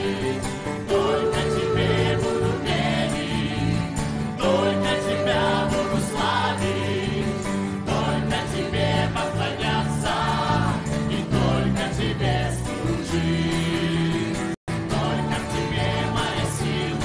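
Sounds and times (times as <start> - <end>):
band with guitars: 0.0 - 17.0
choir singing: 0.0 - 17.0.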